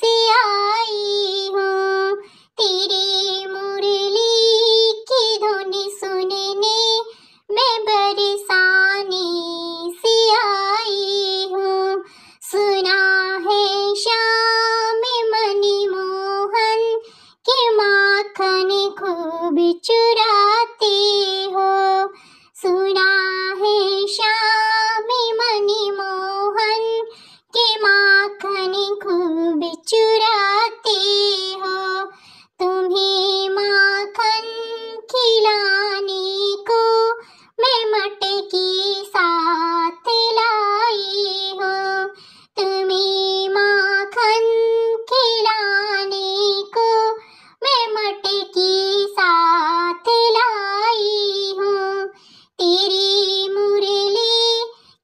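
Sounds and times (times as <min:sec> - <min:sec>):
high-pitched voice singing: 0:00.0 - 0:54.8.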